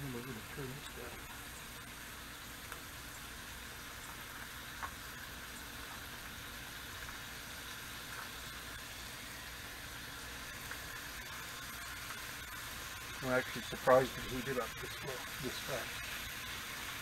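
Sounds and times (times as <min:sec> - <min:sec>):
bacon sizzling on a griddle: 0:00.0 - 0:17.0.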